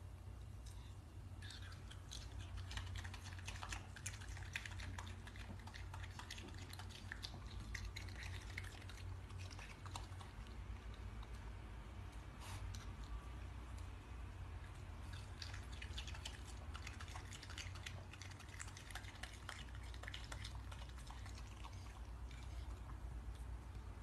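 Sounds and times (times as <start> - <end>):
steady low hum: 0.0 - 24.0
wet smacking chewing clicks: 1.4 - 24.0.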